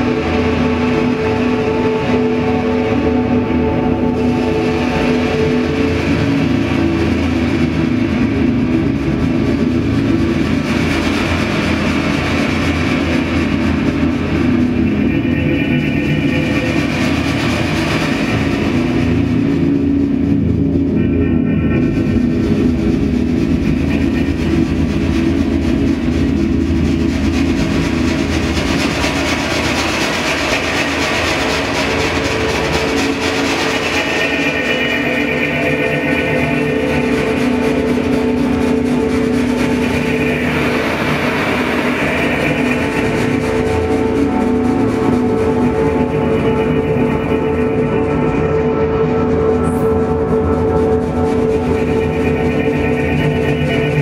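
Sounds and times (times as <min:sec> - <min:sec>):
loud drone with low tones: 0:00.0 - 0:54.0
rumbling engine-like texture: 0:00.0 - 0:54.0.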